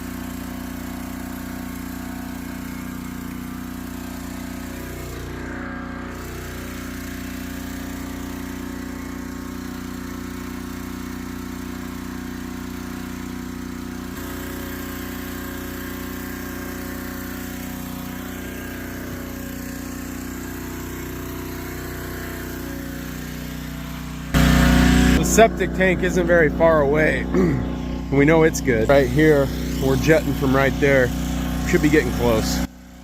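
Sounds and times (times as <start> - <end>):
pressure washer engine running: 0.0 - 33.0.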